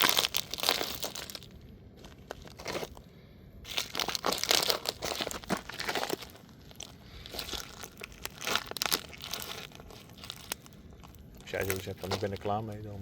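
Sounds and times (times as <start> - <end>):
plastic toy crunching underfoot: 0.0 - 13.0.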